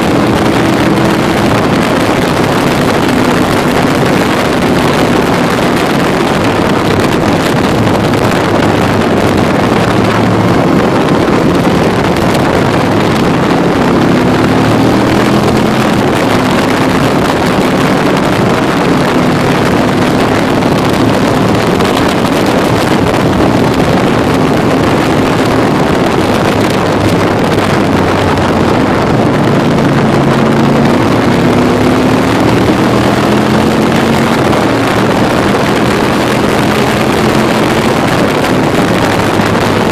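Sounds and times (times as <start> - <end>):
motorbike engine running: 0.0 - 39.9
wind rush on microphone: 0.0 - 39.9.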